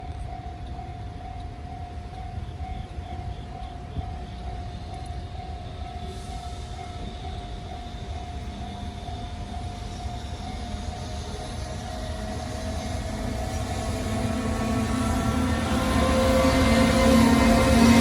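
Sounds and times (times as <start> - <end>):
locomotive whine and rumble: 0.2 - 18.0.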